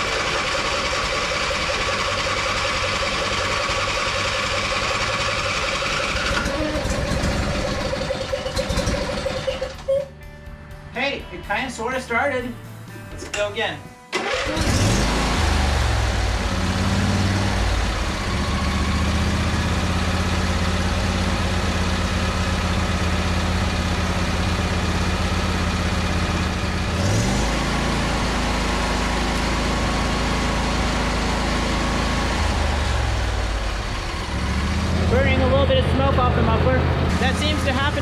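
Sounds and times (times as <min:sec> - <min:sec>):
riding mower engine running: 0:00.0 - 0:09.9, 0:14.1 - 0:38.0.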